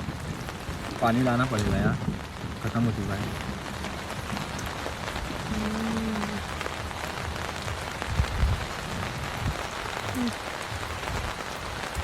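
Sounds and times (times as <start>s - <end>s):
rain on a tent roof: 0.0s - 12.0s.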